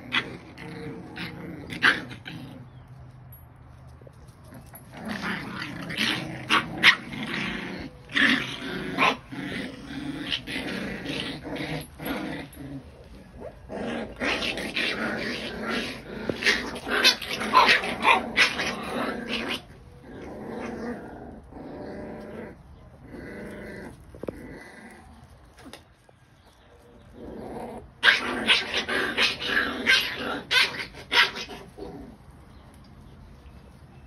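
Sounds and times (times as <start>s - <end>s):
puppies growling and yapping: 0.0s - 3.4s, 4.3s - 34.0s.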